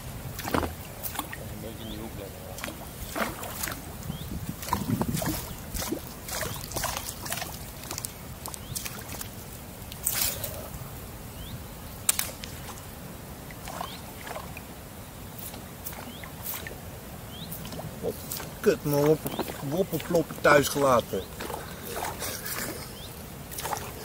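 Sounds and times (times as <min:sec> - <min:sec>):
water lapping against hull: 0:00.0 - 0:24.0.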